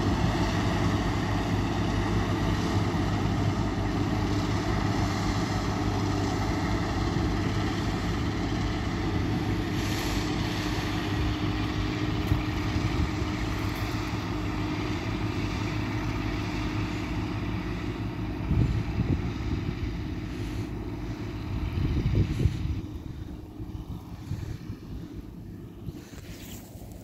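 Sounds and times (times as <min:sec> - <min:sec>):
combine harvester diesel engine: 0:00.0 - 0:27.0
low rumbles: 0:00.0 - 0:27.0.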